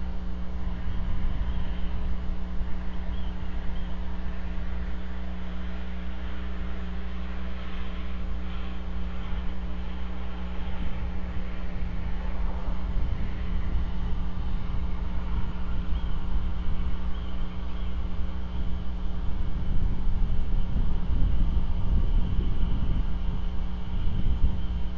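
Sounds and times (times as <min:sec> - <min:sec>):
electrical hum: 0:00.0 - 0:24.9
low rumble: 0:00.0 - 0:24.9.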